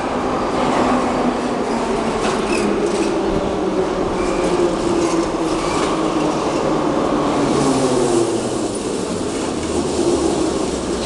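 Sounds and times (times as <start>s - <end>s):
metro train wheels rumbling: 0.0s - 11.0s.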